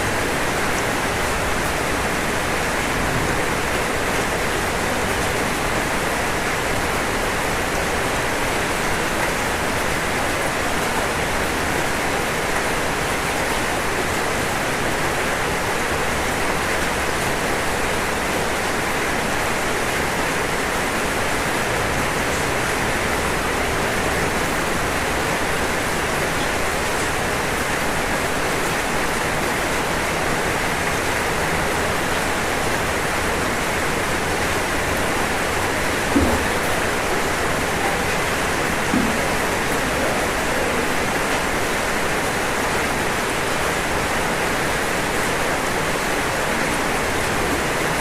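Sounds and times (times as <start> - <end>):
rain falling on a roof: 0.0 - 48.0.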